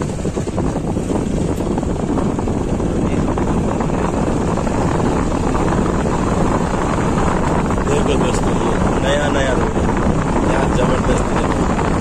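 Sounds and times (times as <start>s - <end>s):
vehicle running on road: 0.0s - 12.0s
wind buffeting microphone: 0.0s - 12.0s.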